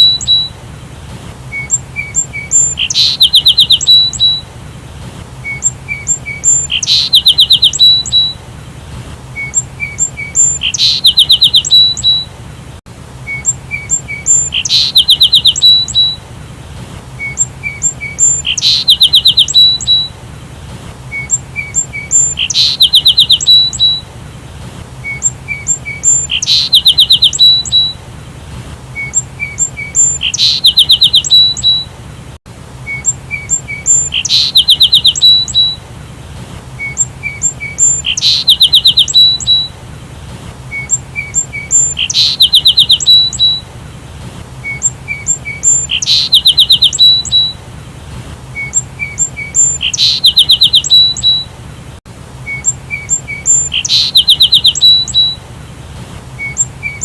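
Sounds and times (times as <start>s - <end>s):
sparrows chirping: 0.0s - 12.6s, 13.2s - 47.9s, 48.5s - 57.0s.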